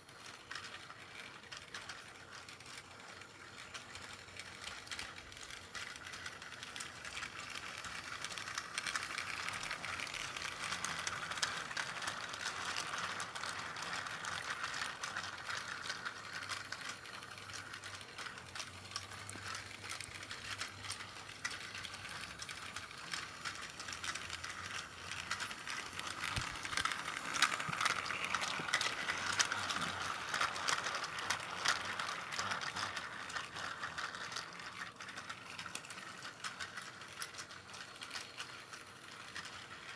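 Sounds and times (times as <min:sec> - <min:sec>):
small clicks of toy train: 0:00.0 - 0:39.9
toy train motor whirring: 0:00.0 - 0:39.9.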